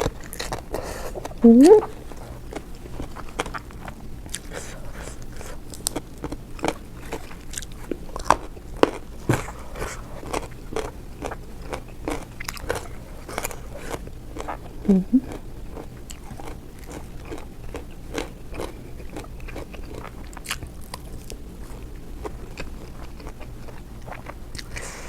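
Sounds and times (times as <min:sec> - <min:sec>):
person chewing crunchy food: 0:00.0 - 0:25.0.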